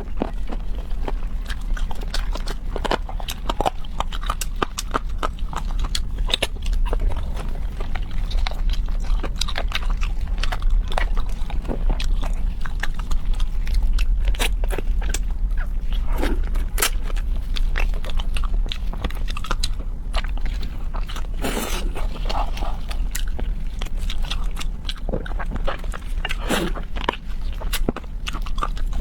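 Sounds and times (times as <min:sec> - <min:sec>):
person chewing and biting: 0:00.0 - 0:29.0
steady low hum: 0:00.0 - 0:29.0.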